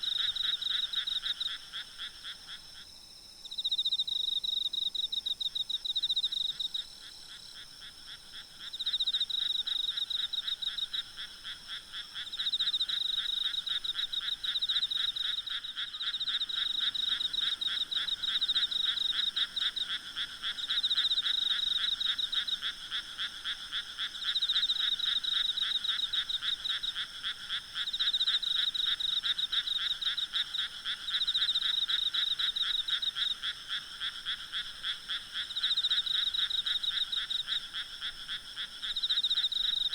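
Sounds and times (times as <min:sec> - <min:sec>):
frogs calling in chorus: 0:00.0 - 0:02.8, 0:05.0 - 0:39.9.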